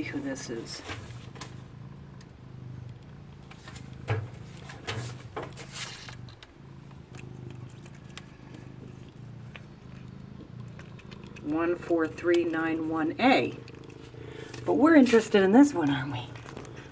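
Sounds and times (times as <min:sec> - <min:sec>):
steady low hum: 0:00.0 - 0:16.9
cat chewing wet food: 0:01.1 - 0:16.9.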